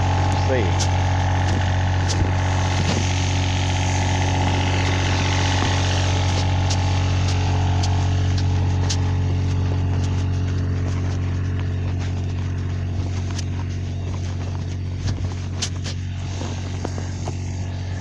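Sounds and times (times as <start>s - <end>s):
mower engine humming: 0.0s - 18.0s.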